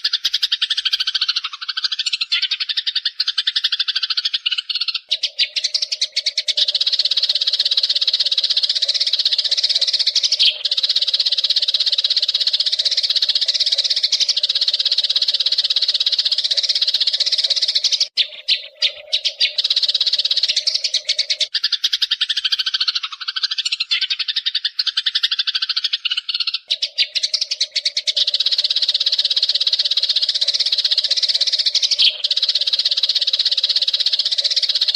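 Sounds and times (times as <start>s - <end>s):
sparrows chattering: 0.0s - 34.9s.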